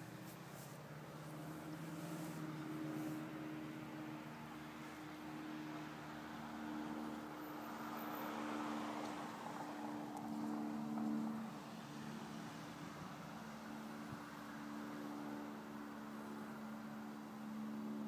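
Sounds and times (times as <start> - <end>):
car passing: 0.0 - 18.0.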